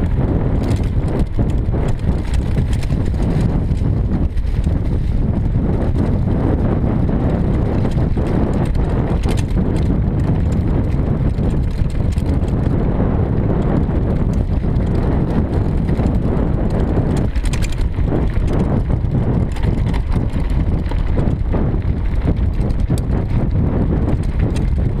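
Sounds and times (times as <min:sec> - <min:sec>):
bike rattling over bumps: 0:00.0 - 0:25.0
wind buffeting microphone: 0:00.0 - 0:25.0.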